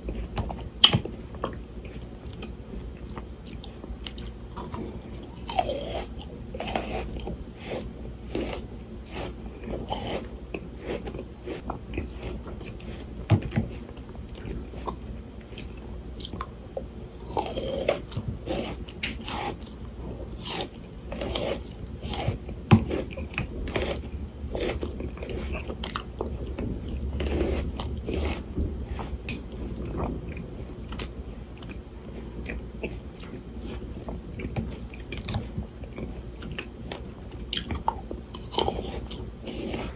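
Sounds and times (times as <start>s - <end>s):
chewing frozen grapes: 0.0s - 39.9s.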